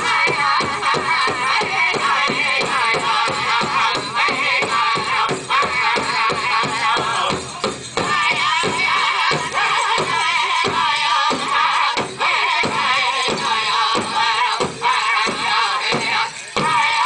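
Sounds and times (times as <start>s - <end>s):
group singing high wavering: 0.0s - 17.0s.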